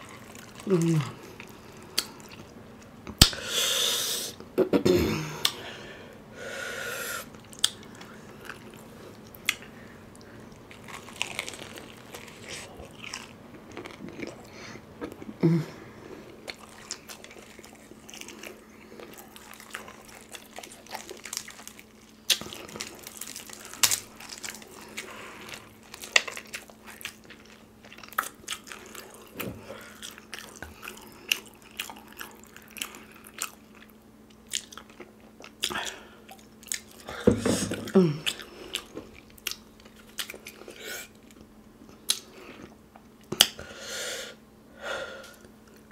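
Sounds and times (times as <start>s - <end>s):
crunchy chewing of fried chicken: 0.0s - 2.9s, 7.2s - 15.3s, 15.9s - 43.6s.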